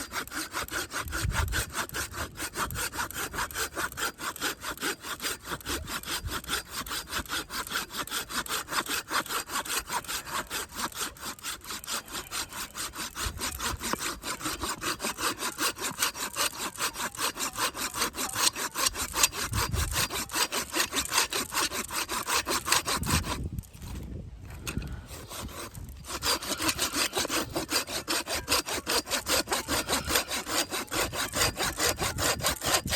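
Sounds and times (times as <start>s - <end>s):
hand saw cutting wood: 0.0s - 32.9s.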